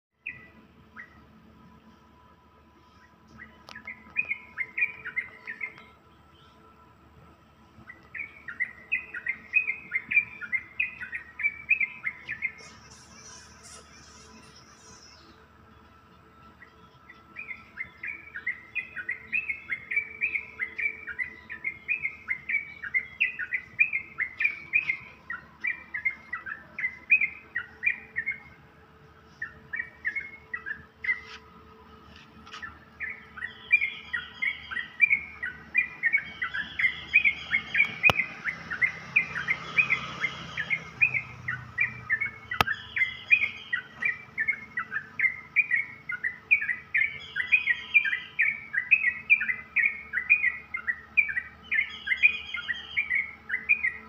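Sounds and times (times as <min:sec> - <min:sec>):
birds chirping: 0:00.2 - 0:54.0
high whistled bird notes: 0:03.0 - 0:06.6, 0:07.8 - 0:15.4, 0:16.6 - 0:28.6, 0:32.6 - 0:54.0.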